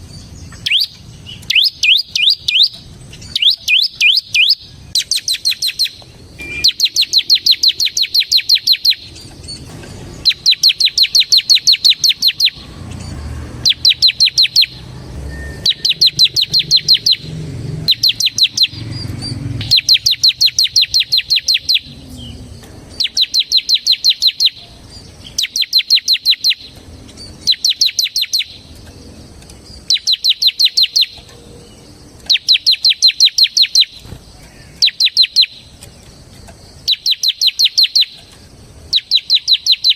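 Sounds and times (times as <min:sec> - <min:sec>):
bird rapid rattling song: 0:00.0 - 0:39.9.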